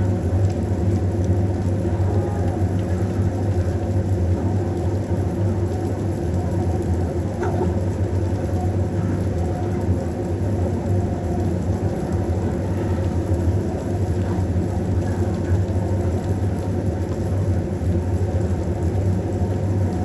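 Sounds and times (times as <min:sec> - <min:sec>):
steady low rumbling: 0:00.0 - 0:20.0.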